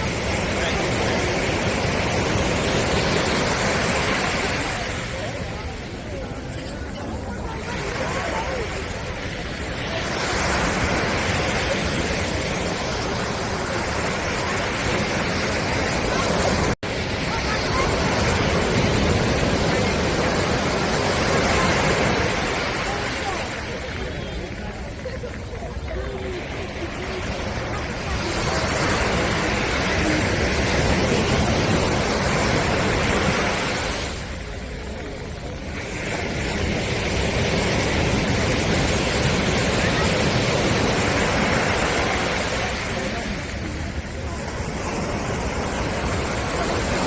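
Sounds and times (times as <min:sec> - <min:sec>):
sea waves washing onto beach: 0:00.0 - 0:47.0.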